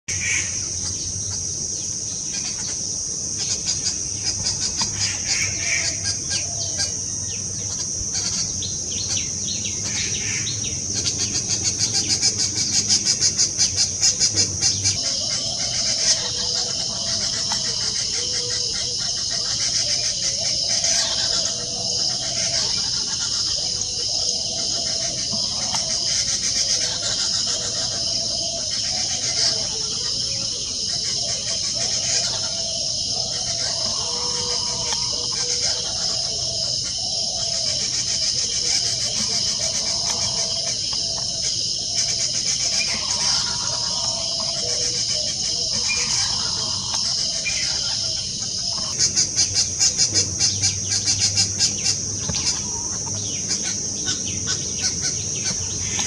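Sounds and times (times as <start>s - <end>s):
birds chirping: 0.0s - 56.0s
high-pitched insect drone: 0.1s - 56.0s
rapid pulsed bird calls: 0.1s - 56.0s.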